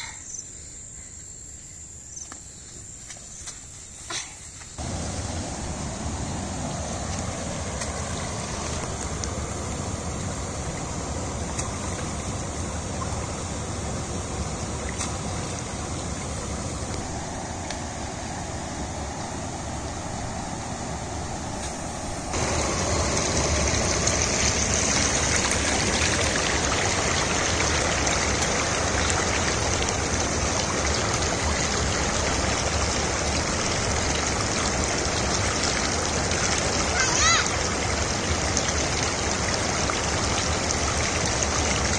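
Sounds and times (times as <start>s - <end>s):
water rushing over a weir: 4.8s - 41.9s.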